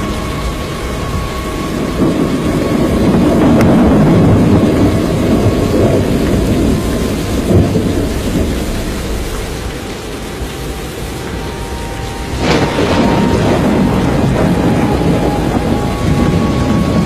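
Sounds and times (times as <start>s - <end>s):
rain: 0.0s - 17.0s
thunder rumbling: 0.0s - 17.0s.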